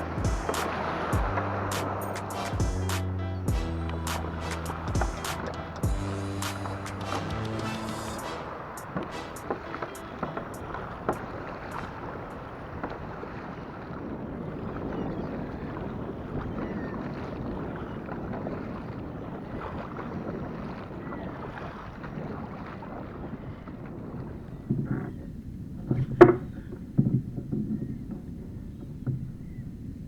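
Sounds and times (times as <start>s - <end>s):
water lapping against kayak hull: 0.0s - 30.0s
wind on microphone: 0.0s - 30.0s.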